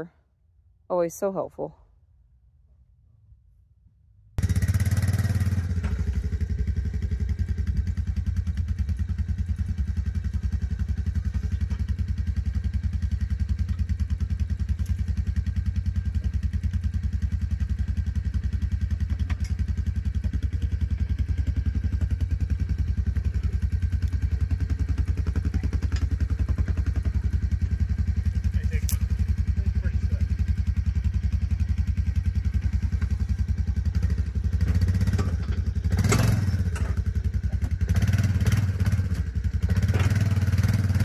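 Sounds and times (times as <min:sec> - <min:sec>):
atv engine idling: 0:04.4 - 0:41.0.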